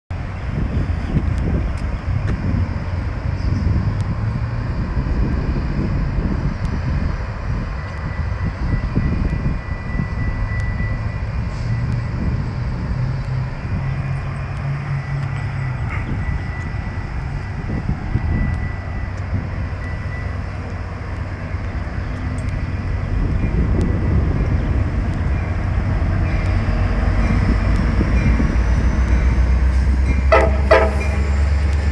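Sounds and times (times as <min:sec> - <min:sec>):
diesel locomotive rumble: 0:00.1 - 0:31.9.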